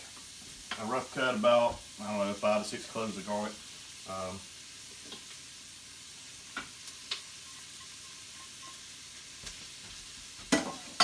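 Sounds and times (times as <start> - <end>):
food sizzling in pot: 0.0 - 11.0.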